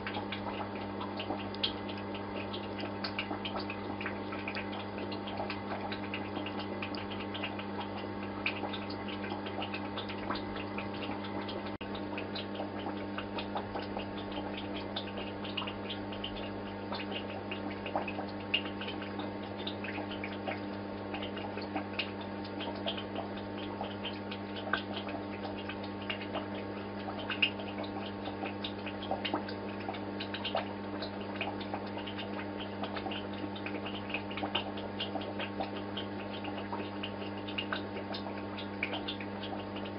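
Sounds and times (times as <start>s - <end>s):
low electrical hum: 0.0s - 39.9s
water ticking and bubbling: 0.0s - 39.9s.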